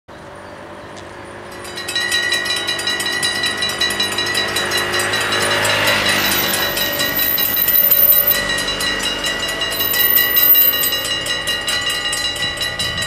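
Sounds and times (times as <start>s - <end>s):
level crossing bells clanging: 1.4s - 13.0s.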